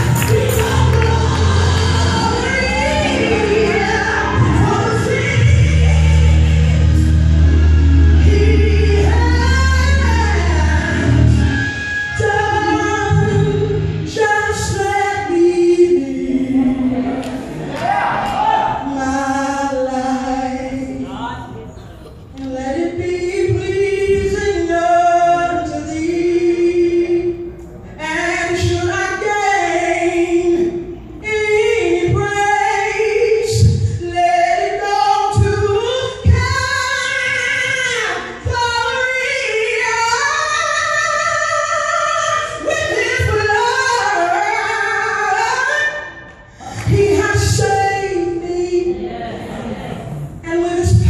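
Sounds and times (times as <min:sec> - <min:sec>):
woman singing gospel: 0:00.0 - 0:17.5, 0:18.8 - 0:21.5, 0:22.2 - 0:49.6, 0:50.4 - 0:51.0.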